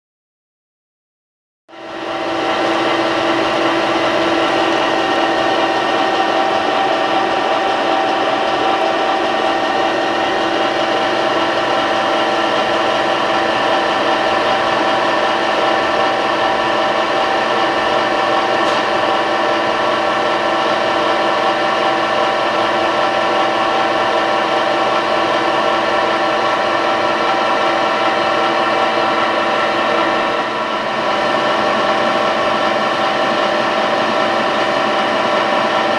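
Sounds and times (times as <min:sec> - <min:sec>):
electric paint mixer humming: 0:01.8 - 0:35.9.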